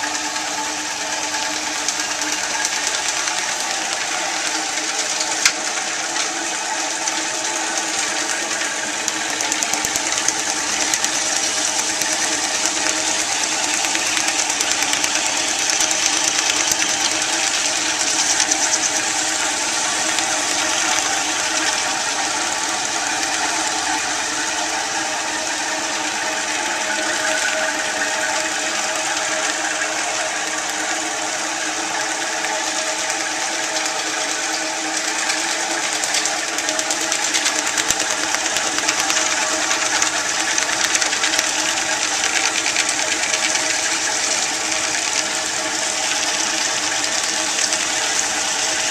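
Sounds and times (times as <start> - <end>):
vibratory lap rattling: 0.0 - 48.9.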